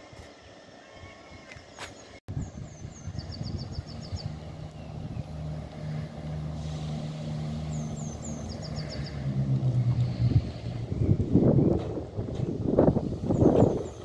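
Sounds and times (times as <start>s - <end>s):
deep loud engine note: 2.3s - 14.0s
train engine humming: 2.3s - 14.0s.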